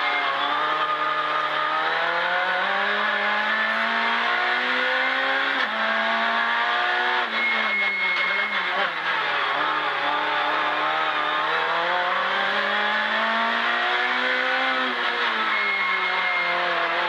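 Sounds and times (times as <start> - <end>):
race car engine: 0.0 - 17.0
road and cabin noise: 0.0 - 17.0.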